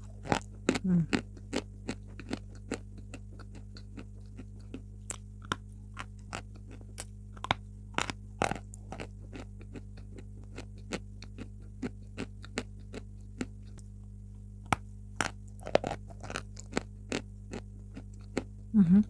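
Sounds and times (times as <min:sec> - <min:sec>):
low electrical hum: 0:00.0 - 0:19.0
chalk being chewed: 0:00.1 - 0:13.9, 0:14.7 - 0:18.5.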